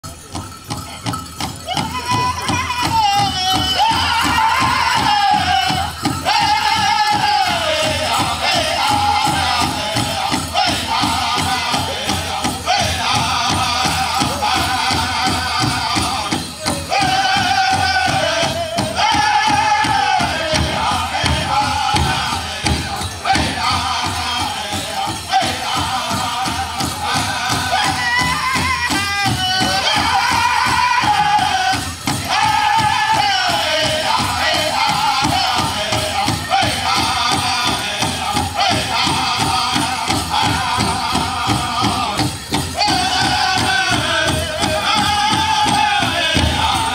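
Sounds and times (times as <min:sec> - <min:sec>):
ankle bells jingling: 0:00.0 - 0:46.9
drum group singing in high voices: 0:00.1 - 0:46.9
steady beat on big drum: 0:00.1 - 0:46.9.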